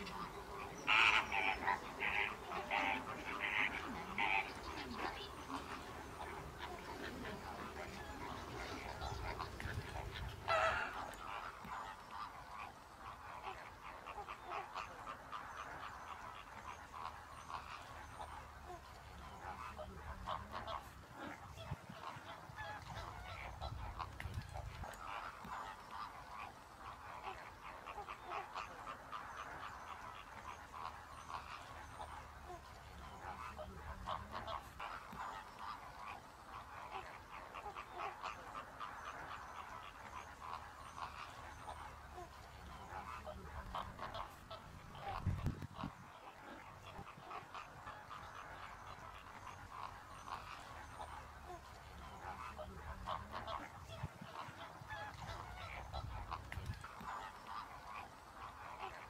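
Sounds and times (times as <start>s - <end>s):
flamingos honking and gabbling: 0.0s - 59.0s.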